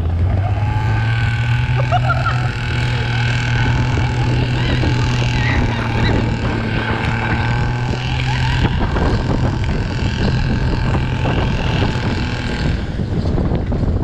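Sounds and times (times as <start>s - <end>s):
sled scraping over snow: 0.0s - 14.0s
vehicle engine running: 0.0s - 14.0s
wind on microphone: 0.0s - 14.0s.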